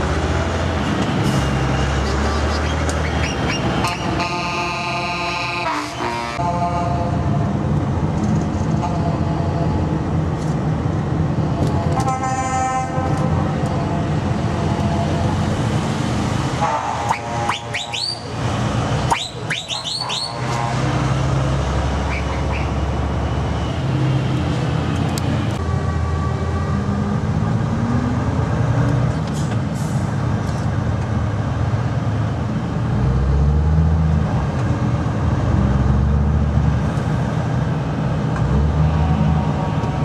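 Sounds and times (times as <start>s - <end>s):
truck diesel engine: 0.0s - 40.0s.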